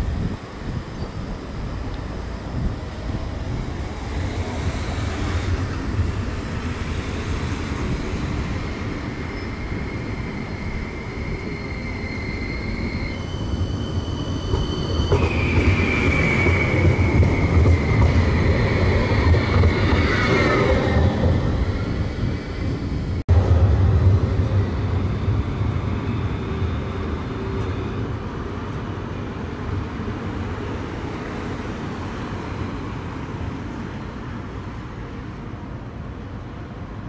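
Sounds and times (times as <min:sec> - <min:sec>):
tram wheels rumbling on track: 0:00.0 - 0:37.0.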